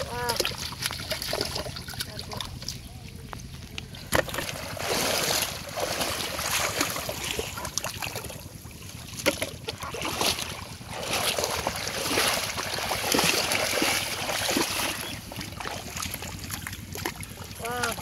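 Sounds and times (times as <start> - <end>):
person wading through shallow water: 0.0 - 18.0
plastic tub moving in water: 0.0 - 18.0.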